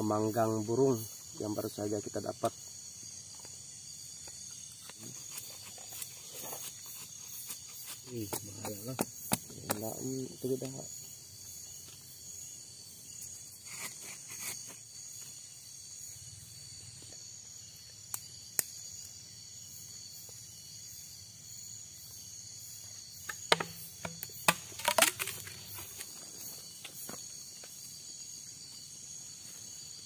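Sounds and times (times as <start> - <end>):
crickets droning: 0.0 - 30.0.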